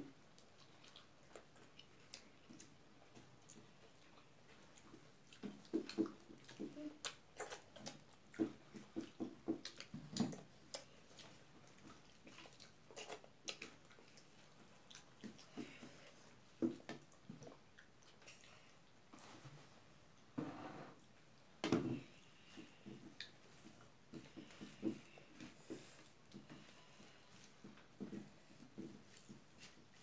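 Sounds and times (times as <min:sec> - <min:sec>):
wet chewing and lip smacks: 0:00.3 - 0:19.0, 0:22.5 - 0:30.0.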